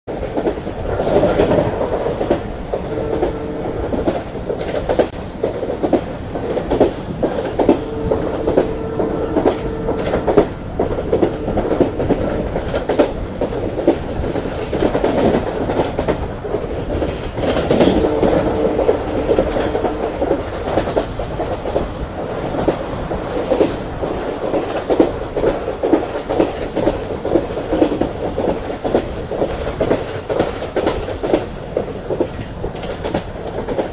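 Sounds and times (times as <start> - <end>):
train wheels rumbling on track: 0.1 - 33.9.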